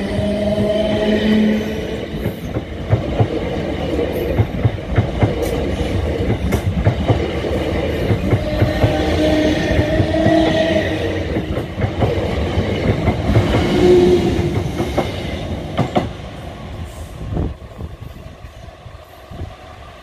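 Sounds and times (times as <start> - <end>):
train wheels clattering: 0.0 - 16.2
train rolling rumble: 0.0 - 20.0.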